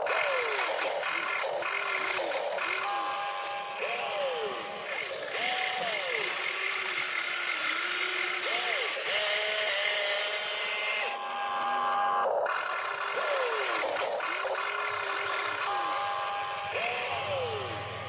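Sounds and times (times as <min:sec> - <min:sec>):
small electric motors whining: 0:00.0 - 0:18.0.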